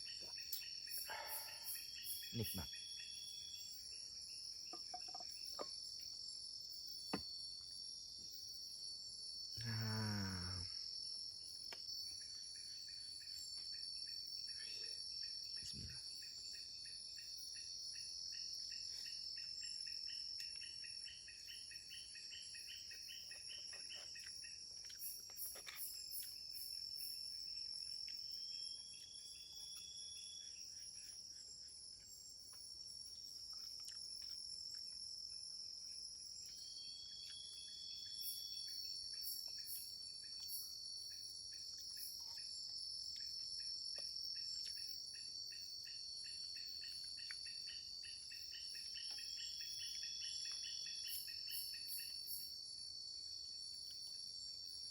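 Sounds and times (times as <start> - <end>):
fast pulsing insect chirp: 0.0 - 54.9
insect chorus drone: 0.0 - 54.9.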